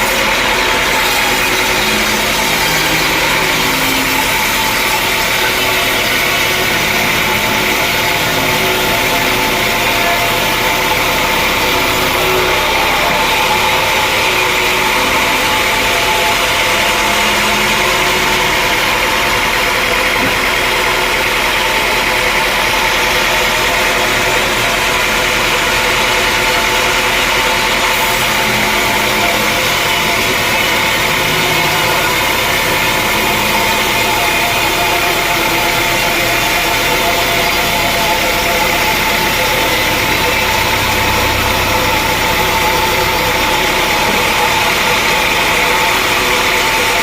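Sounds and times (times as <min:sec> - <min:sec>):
sawmill machine drone: 0:00.0 - 0:47.0.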